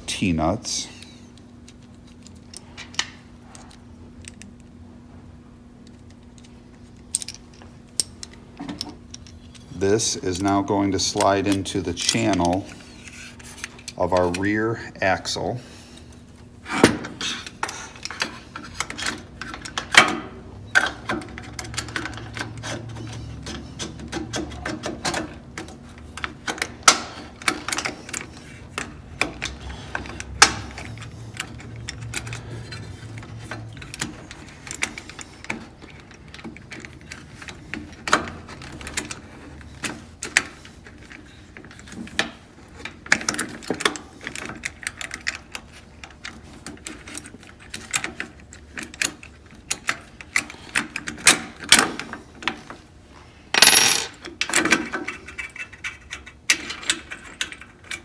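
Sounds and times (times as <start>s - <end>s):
metal hardware clicking and rattling: 5.8s - 14.7s, 17.6s - 52.7s, 53.6s - 58.0s.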